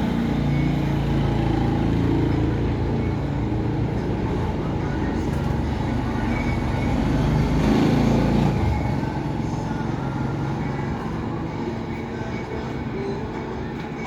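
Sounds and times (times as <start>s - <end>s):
passing vehicle engine rumble: 0.0s - 12.4s.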